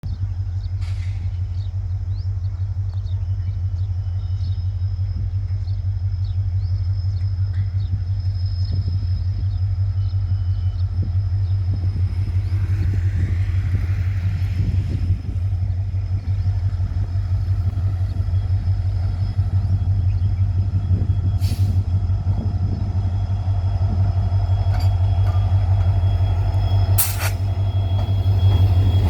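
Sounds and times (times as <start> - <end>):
diesel locomotive engine rumbling: 0.0 - 29.0.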